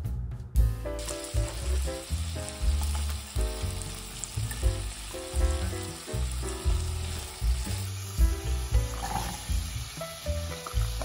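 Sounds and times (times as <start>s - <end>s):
music with bouncy bass line: 0.0s - 11.0s
chicken sizzling in oil: 1.0s - 11.0s.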